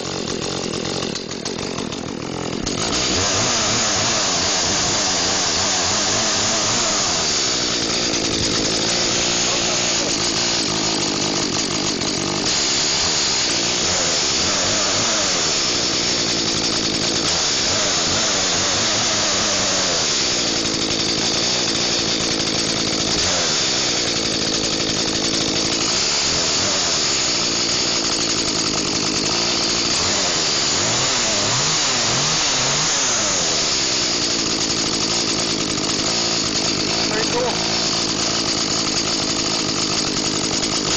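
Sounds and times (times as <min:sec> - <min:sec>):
chainsaw engine running: 0:00.0 - 0:40.9.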